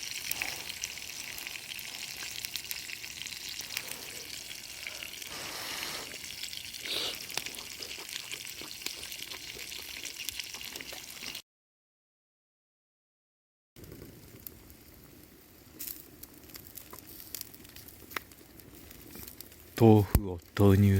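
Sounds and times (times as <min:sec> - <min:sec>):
campfire cooking crackling and sizzling: 0:00.0 - 0:11.4, 0:13.8 - 0:20.9.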